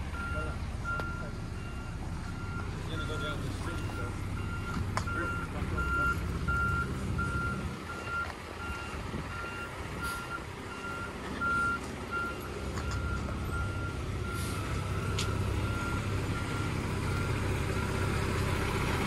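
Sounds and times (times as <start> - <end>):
diesel engine rumble: 0.0 - 19.0
reversing alarm beeping: 0.1 - 18.0.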